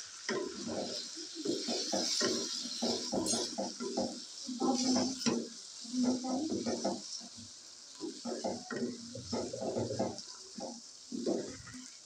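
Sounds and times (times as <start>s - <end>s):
wooden spatula scraping wok: 0.1s - 12.0s.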